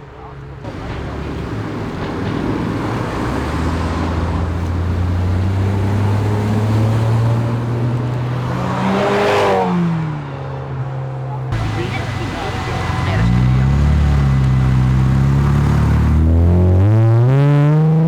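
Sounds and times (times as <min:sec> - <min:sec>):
car engine passing by: 0:00.6 - 0:18.0.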